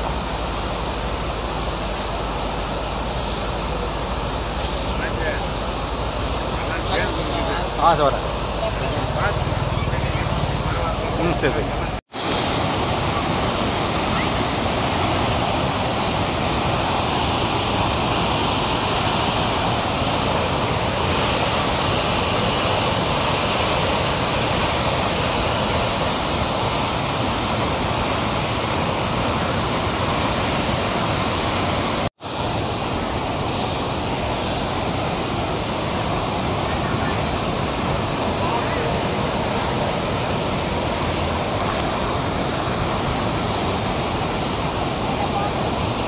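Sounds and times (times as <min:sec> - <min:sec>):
rushing churning water: 0:00.0 - 0:46.0.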